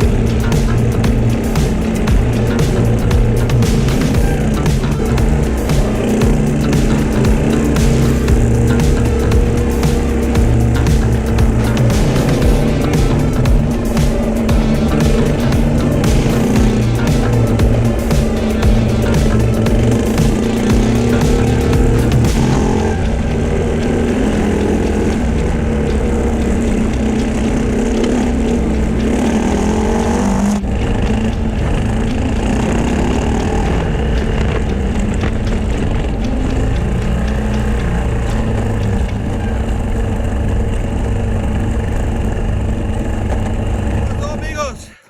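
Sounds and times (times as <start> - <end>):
motorcycle engine running: 0.0 - 44.7
heavy wind noise: 0.0 - 44.8.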